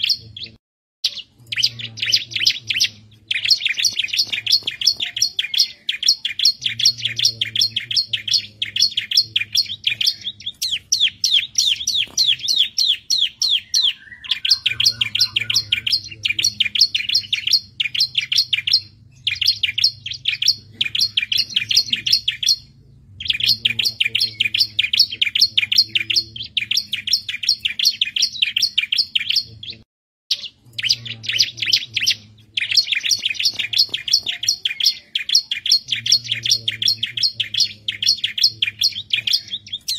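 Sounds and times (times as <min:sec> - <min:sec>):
bird rapid high chirping: 0:00.0 - 0:39.9.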